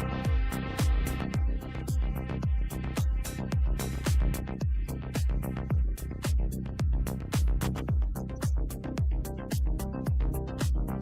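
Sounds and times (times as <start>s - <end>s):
deep kick drum: 0.0s - 11.0s
electronic music with steady beat: 0.0s - 11.0s
hi-hat ticks: 0.0s - 11.0s.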